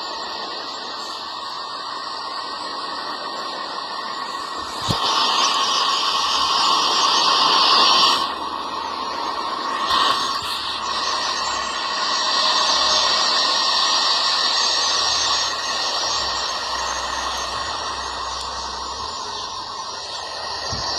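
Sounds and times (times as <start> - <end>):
steady rushing hiss: 0.0 - 20.9.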